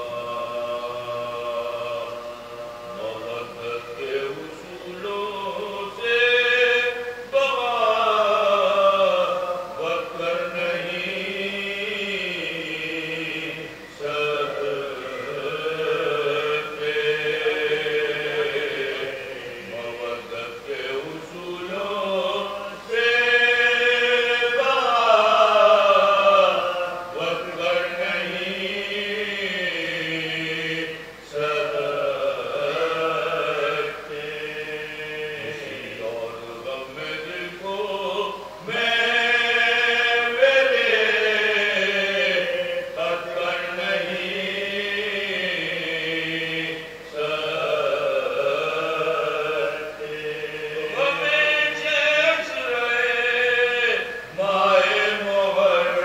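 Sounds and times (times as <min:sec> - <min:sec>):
men singing unaccompanied: 0:00.0 - 0:56.0.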